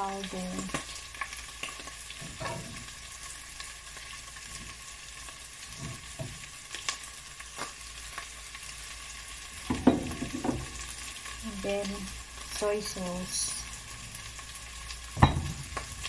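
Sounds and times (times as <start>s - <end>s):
vegetables sizzling in a pot: 0.0s - 16.0s.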